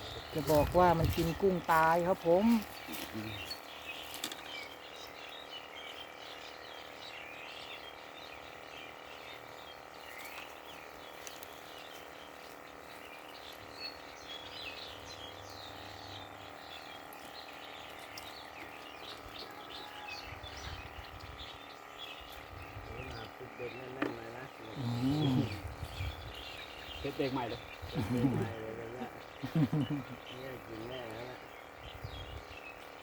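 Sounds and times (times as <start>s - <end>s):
birds chirping: 0.0s - 33.0s
steady background hum: 0.0s - 33.0s.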